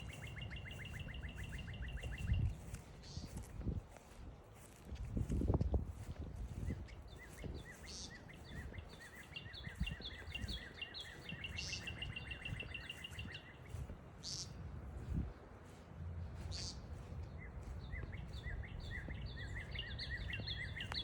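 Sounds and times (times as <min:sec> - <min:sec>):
rustling from walking: 0:00.0 - 0:20.1
songbird chirping: 0:00.0 - 0:21.0.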